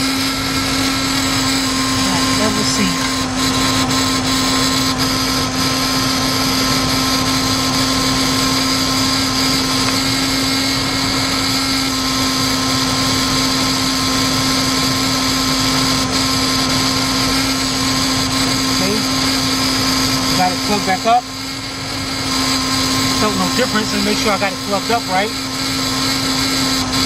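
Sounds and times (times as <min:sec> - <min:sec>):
misfiring engine running rough: 0:00.0 - 0:27.0.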